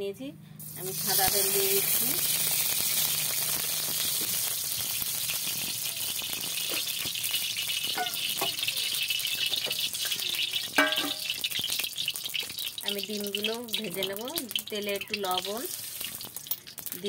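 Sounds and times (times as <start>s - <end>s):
oil sizzling in a pan: 0.6s - 17.0s.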